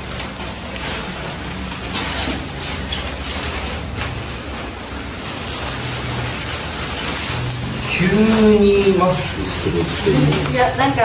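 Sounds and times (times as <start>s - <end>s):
plastic ponchos rustling: 0.0s - 11.0s.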